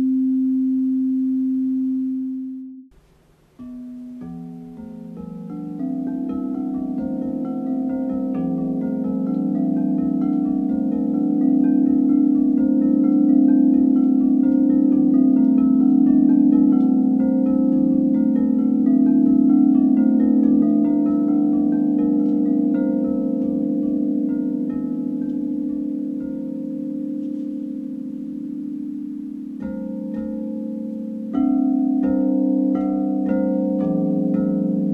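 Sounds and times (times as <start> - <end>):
singing bowls ringing low tones: 0.0 - 3.0, 3.6 - 34.9.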